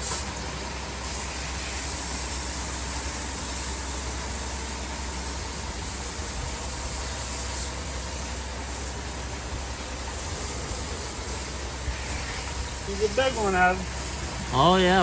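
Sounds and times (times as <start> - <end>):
even hiss: 0.0 - 15.0
low engine rumble: 0.0 - 15.0.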